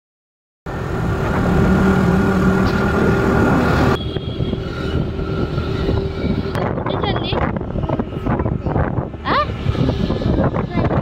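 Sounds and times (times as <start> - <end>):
vehicle running rumble: 0.7 - 11.0.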